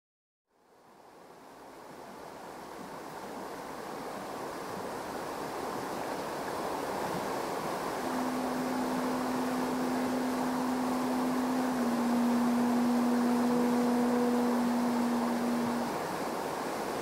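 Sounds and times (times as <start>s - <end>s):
rushing mountain stream: 0.6s - 17.0s.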